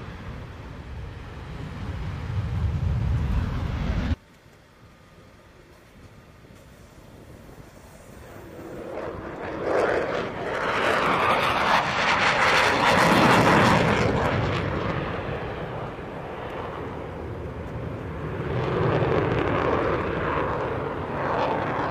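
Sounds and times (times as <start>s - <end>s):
aircraft passing overhead: 0.0s - 4.2s, 4.8s - 21.9s.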